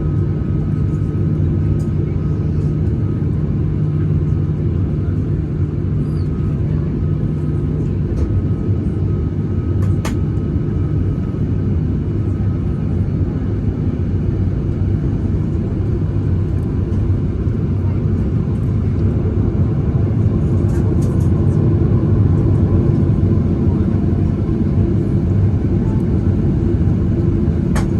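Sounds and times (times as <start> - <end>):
airliner engine cabin rumble: 0.0 - 27.9.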